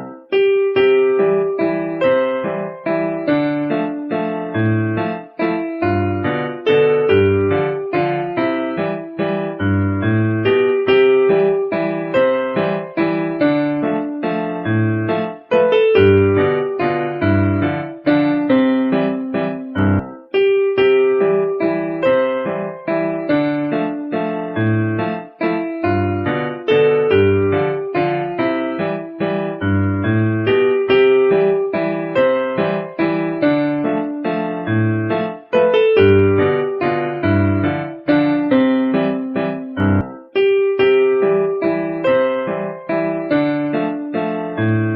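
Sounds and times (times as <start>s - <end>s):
piano tune: 0.0s - 44.9s.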